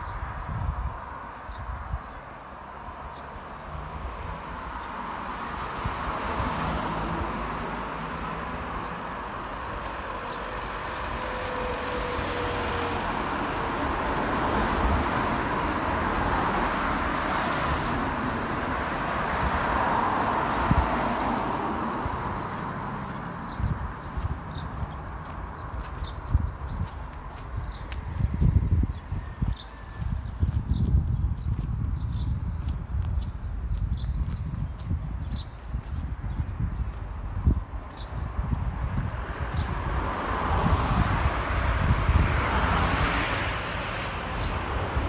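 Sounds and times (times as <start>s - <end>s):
road traffic passing: 0.0s - 45.0s.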